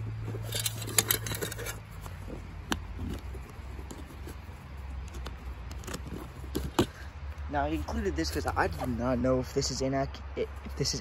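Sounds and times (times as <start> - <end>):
canvas rustling and scraping: 0.0 - 9.2.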